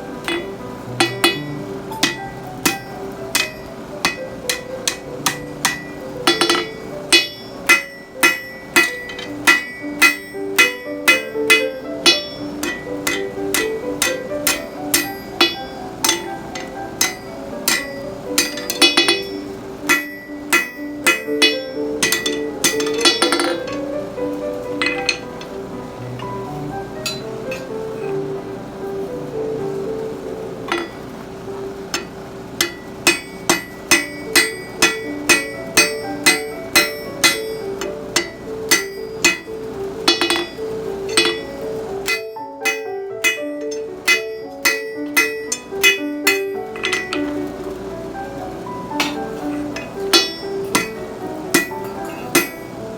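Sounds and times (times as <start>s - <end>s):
hammer striking steel on anvil: 0.0s - 25.6s, 26.2s - 28.2s, 30.7s - 31.0s, 31.9s - 47.5s, 48.9s - 52.8s
background music: 0.0s - 52.9s.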